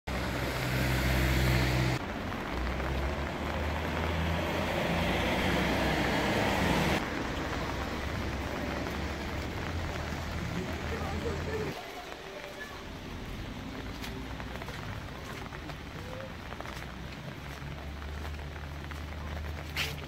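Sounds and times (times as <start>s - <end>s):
cars on a wet road: 0.1s - 20.0s.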